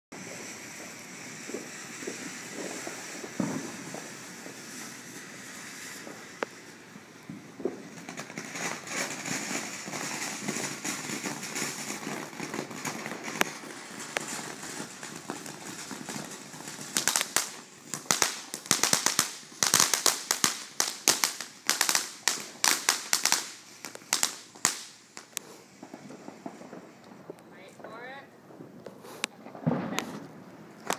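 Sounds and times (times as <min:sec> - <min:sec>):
firework cracks and pops: 0:00.1 - 0:30.9
firework fountain hissing: 0:00.1 - 0:30.9.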